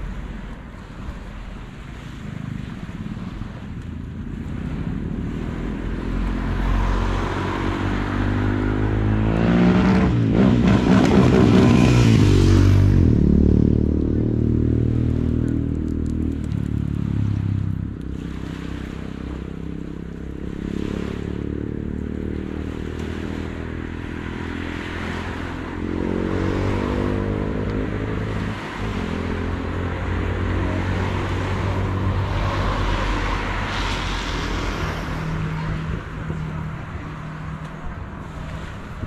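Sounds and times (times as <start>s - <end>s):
traffic engines passing: 0.0s - 39.0s.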